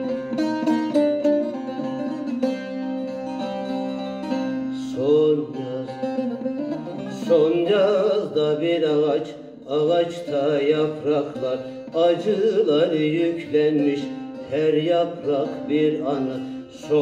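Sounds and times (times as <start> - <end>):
long-necked lutes playing folk melody: 0.0 - 17.0.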